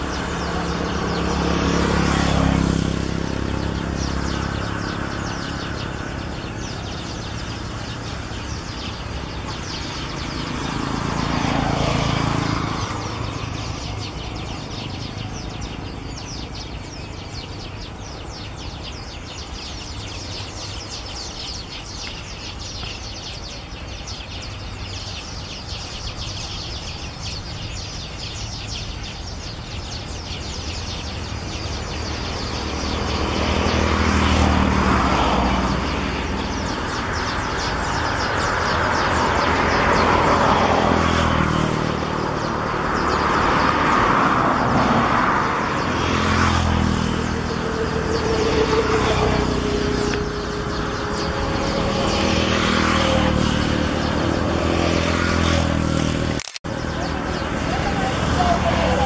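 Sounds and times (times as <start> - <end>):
vehicle passing: 0.0 - 59.0.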